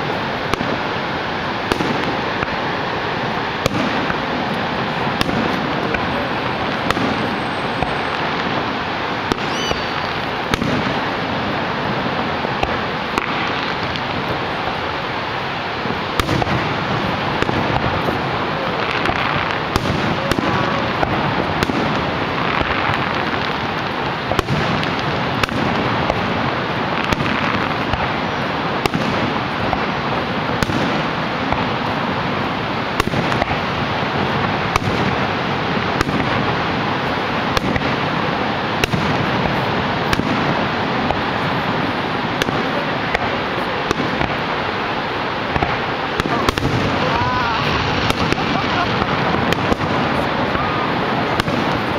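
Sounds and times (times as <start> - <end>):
fireworks bangs and cracks: 0.0 - 51.9
waterfall roaring: 0.0 - 51.9.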